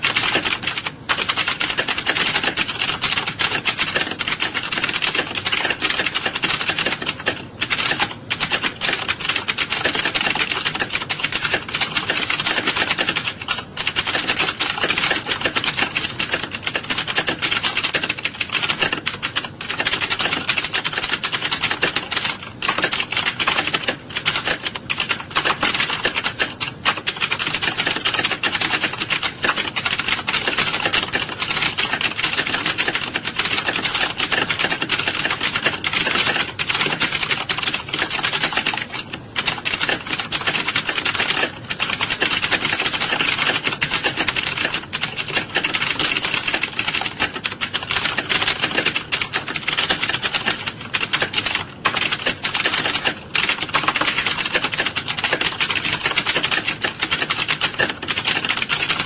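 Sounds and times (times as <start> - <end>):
keyboards typing clatter: 0.0 - 59.0.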